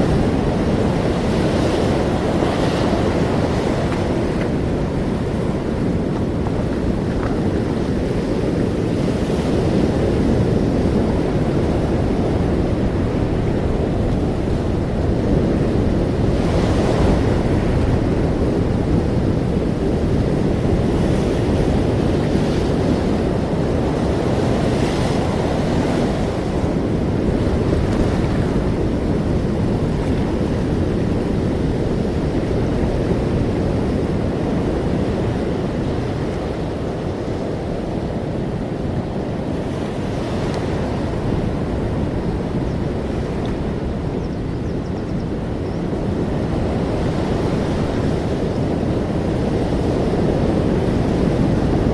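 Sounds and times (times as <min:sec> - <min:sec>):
surf rushing: 0:00.0 - 0:44.2, 0:45.3 - 0:51.9.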